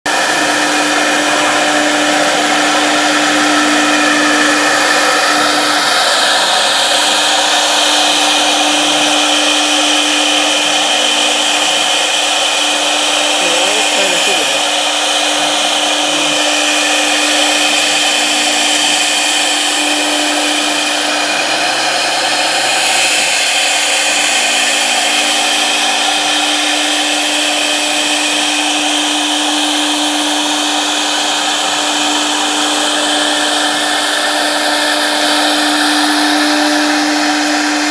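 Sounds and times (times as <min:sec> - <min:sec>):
router spindle whine: 0:00.0 - 0:37.9
machining noise: 0:00.1 - 0:37.9.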